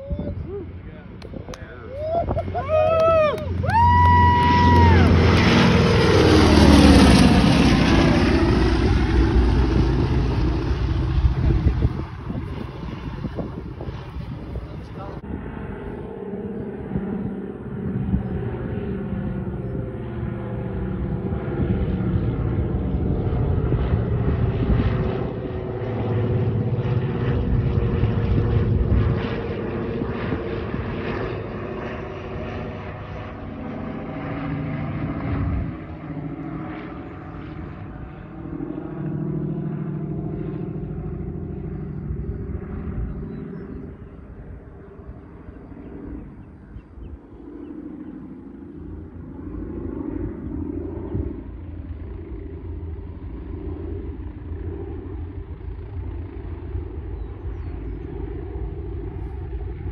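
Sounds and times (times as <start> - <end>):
propeller airplane droning: 0.0 - 59.9.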